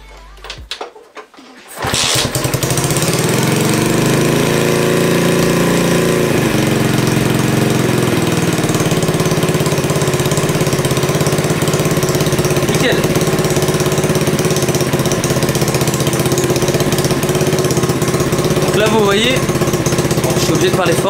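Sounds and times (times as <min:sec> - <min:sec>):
motorbike engine idling: 0:01.8 - 0:21.0.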